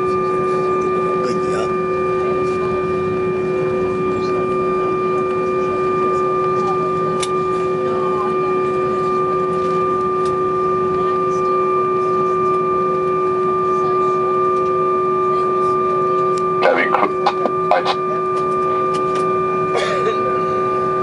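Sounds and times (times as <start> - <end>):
faint murmuring voices: 0.0 - 20.8
airliner cabin engine hum: 0.0 - 21.0.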